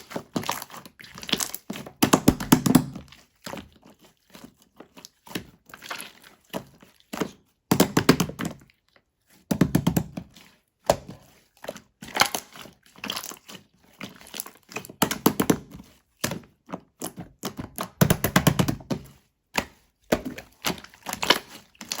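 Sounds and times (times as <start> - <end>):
slime squished by hand: 0.0 - 8.7, 9.6 - 22.0.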